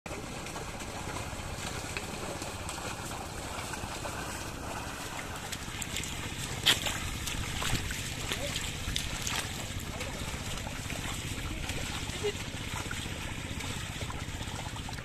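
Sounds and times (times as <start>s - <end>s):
splashing through mud: 0.1s - 15.0s.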